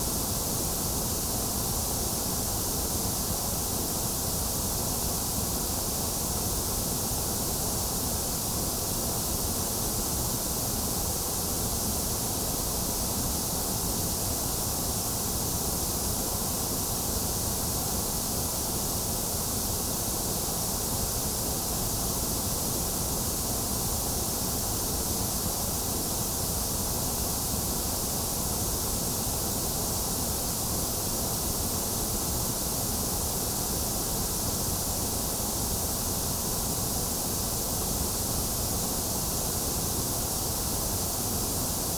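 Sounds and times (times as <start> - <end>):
electronic white noise hiss: 0.0 - 41.9.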